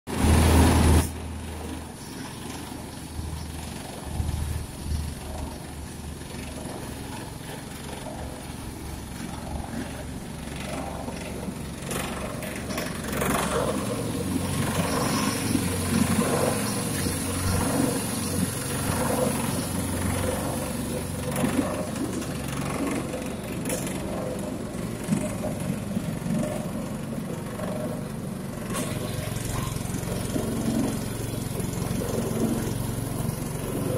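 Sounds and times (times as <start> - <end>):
high whine of spinning drum: 0.1 - 33.9
small petrol engine running: 0.1 - 33.9.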